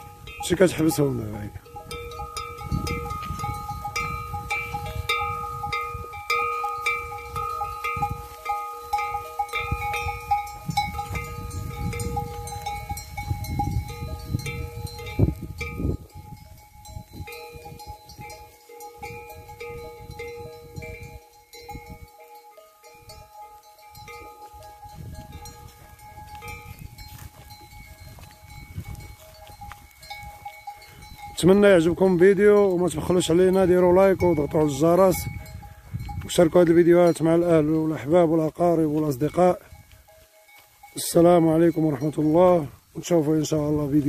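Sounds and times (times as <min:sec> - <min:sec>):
goat bells jangling: 0:00.0 - 0:44.0.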